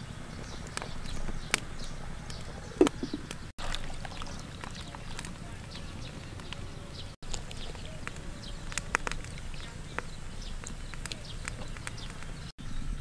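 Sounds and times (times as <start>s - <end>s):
broth boiling: 0.0s - 12.5s
wood fire crackling and popping: 0.2s - 12.6s.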